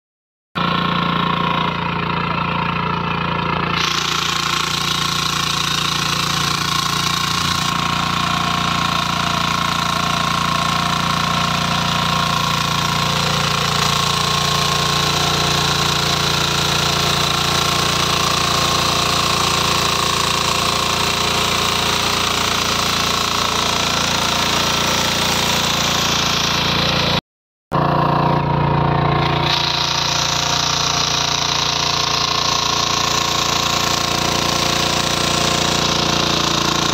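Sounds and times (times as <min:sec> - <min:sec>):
rotary tines tilling soil: 0:00.6 - 0:27.2, 0:27.8 - 0:36.9
weeder engine running under load: 0:00.6 - 0:27.2, 0:27.8 - 0:36.9.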